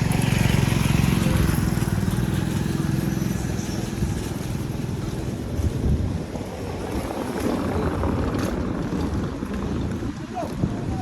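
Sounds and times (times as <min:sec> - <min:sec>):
low rumble of passing vehicles: 0:00.0 - 0:11.0
wind buffeting microphone: 0:00.0 - 0:11.0.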